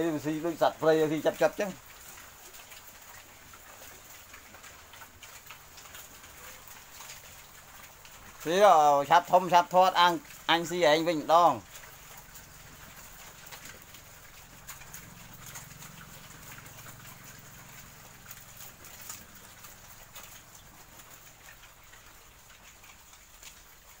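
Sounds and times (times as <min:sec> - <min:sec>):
chewing and rustling leaves: 0:00.0 - 0:24.0
pigs grunting: 0:00.0 - 0:24.0.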